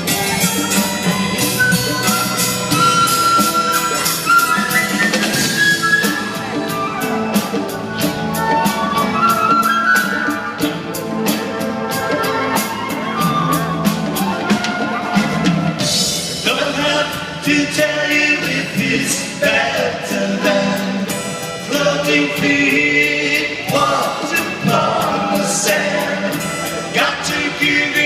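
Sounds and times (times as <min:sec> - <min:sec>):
drum kit steady beat: 0:00.0 - 0:28.0
live rock band playing: 0:00.0 - 0:28.0.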